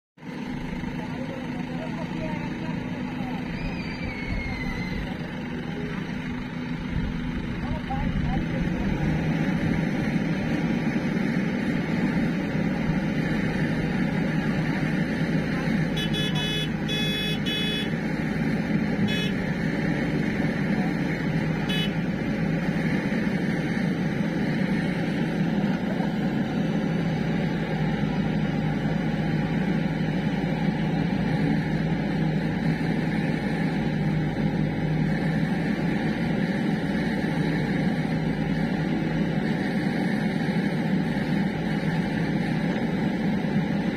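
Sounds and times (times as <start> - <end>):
steady engine drone: 0.2 - 43.9.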